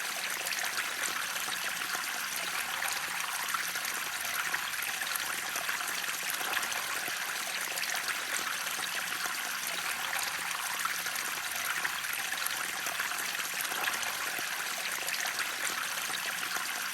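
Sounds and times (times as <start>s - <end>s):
water flowing and splashing: 0.0s - 16.9s.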